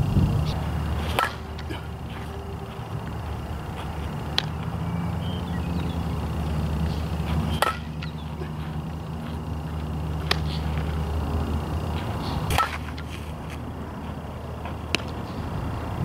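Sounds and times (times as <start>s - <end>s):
steady low rumble: 0.0s - 16.0s
softball impact cracks: 0.5s - 4.8s, 5.7s - 14.2s, 14.8s - 15.3s.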